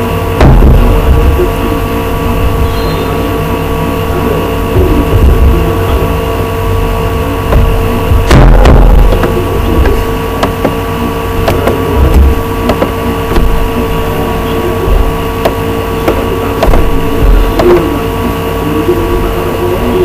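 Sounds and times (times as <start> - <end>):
steady hum with low rumble: 0.0 - 20.0.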